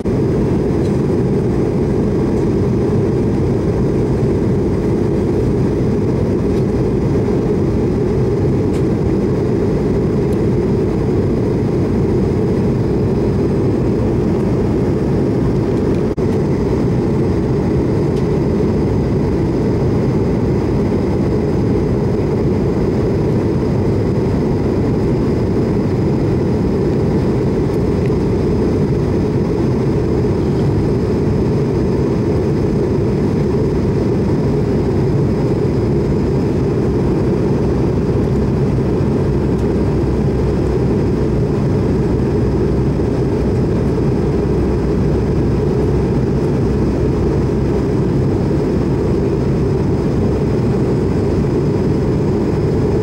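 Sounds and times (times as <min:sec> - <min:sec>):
airliner cabin engine rush: 0:00.0 - 0:53.0.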